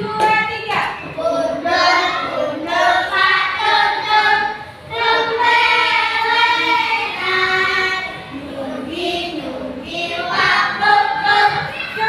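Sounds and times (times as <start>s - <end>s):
children and woman singing: 0.0s - 12.0s.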